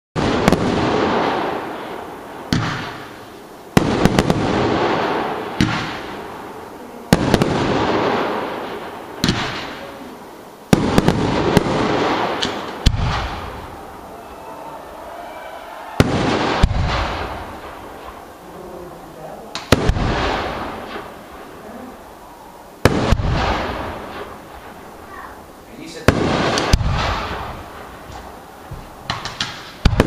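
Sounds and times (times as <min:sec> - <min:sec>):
fireworks bangs: 0:00.2 - 0:30.0.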